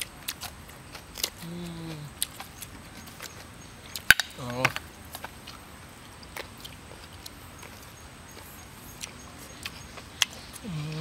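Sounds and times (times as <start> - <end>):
people chewing and sucking: 0.0 - 11.0.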